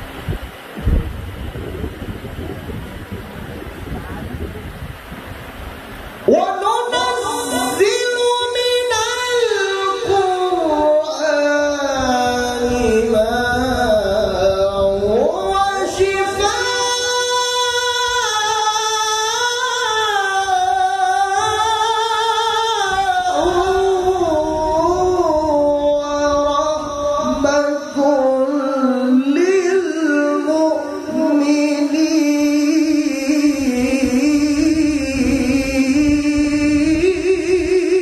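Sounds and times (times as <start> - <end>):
man reciting melodically: 6.2 - 38.0.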